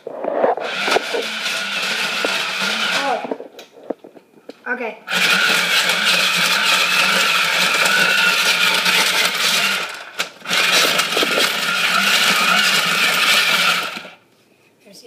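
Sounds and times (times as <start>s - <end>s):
motor hum: 0.0s - 4.2s, 5.1s - 14.2s
ice being shaved: 0.1s - 3.4s, 5.1s - 14.2s.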